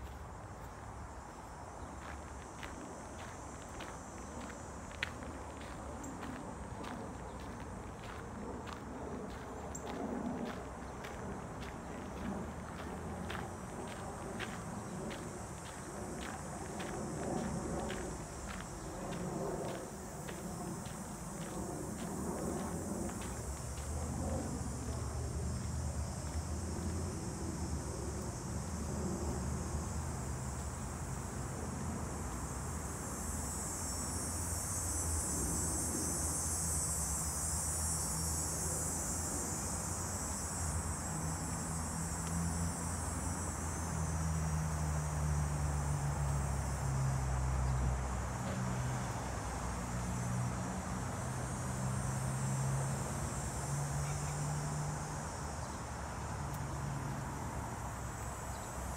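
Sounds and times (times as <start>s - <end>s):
insects buzzing drone: 0.0s - 58.9s
low rumble of street traffic: 0.0s - 58.9s.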